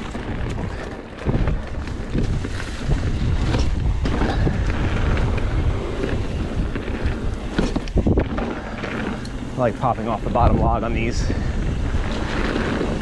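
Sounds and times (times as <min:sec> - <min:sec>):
bike clicks and knocks: 0:00.0 - 0:13.0
mountain bike rumbling on dirt: 0:00.0 - 0:13.0
wind buffeting microphone: 0:00.0 - 0:13.0.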